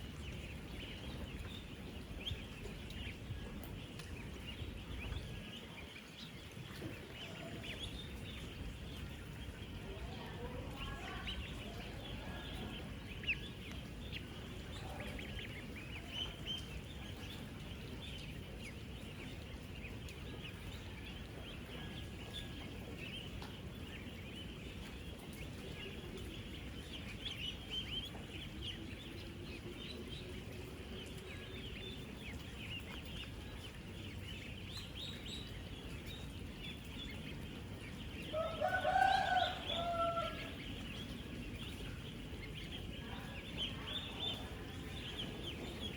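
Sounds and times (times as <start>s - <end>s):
ducklings peeping: 0.0s - 45.9s
low steady background noise: 0.0s - 45.9s.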